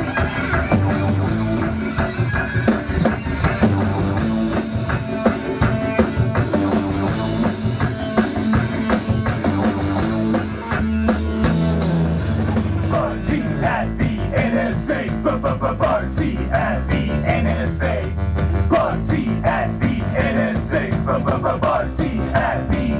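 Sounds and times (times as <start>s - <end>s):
drum kit beat: 0.0s - 22.9s
electric guitar: 0.0s - 22.9s.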